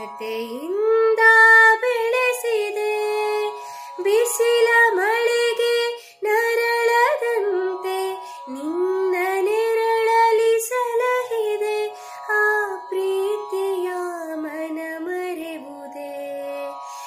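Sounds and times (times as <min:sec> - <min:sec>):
woman singing unaccompanied: 0:00.0 - 0:16.8.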